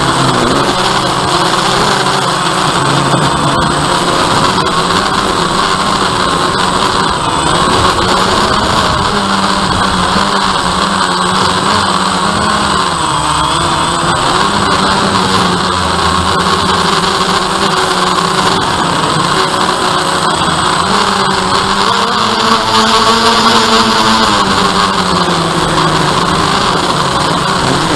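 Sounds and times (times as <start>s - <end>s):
drone propellers whining: 0.0s - 27.9s.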